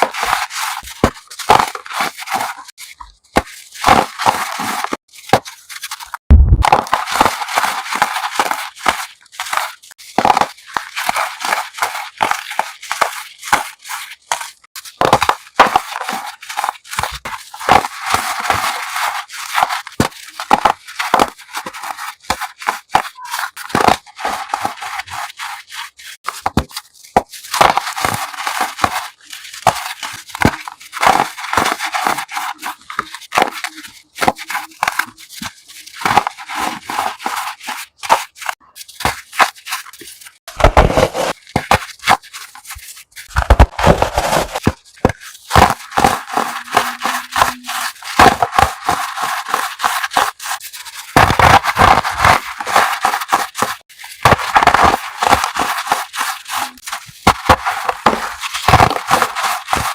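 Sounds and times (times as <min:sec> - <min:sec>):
chalk block crunching: 0:00.0 - 0:59.9.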